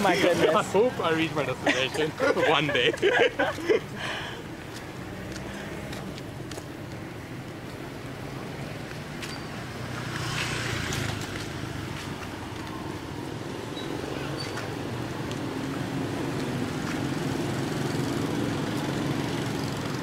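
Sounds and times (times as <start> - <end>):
motorbike and car engines passing: 0.0 - 20.0.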